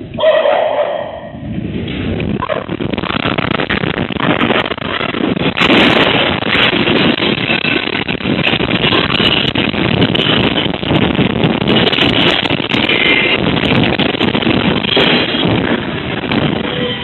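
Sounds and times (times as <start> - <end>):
building rumbling and rattling: 0.0 - 17.0.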